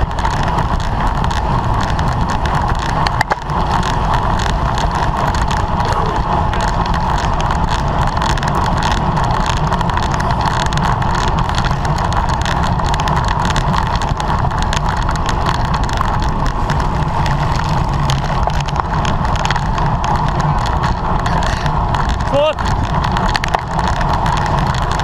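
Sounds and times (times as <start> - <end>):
bicycle clicks and rattles: 0.0 - 25.0
wind rush over microphone: 0.0 - 25.0.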